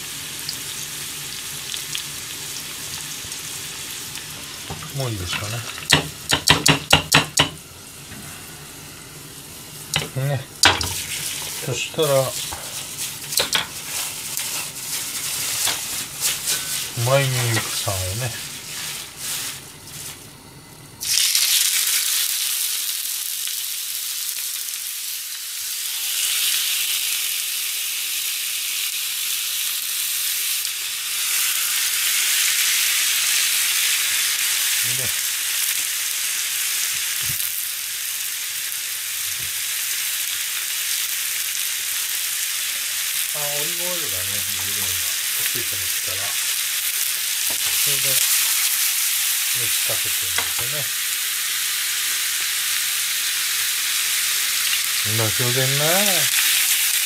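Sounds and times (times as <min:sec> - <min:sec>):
chicken sizzling in a frying pan: 0:00.0 - 0:57.0.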